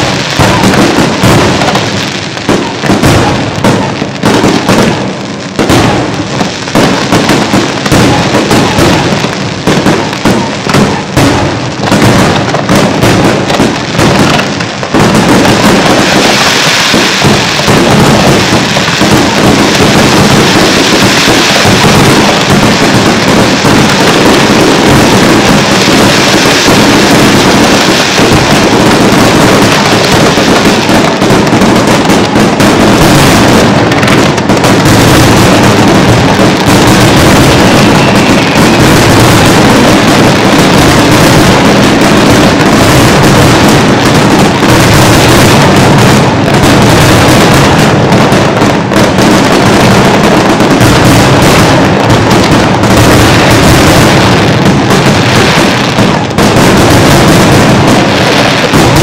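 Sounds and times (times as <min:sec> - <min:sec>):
fireworks bursting and banging: 0:00.0 - 0:59.0.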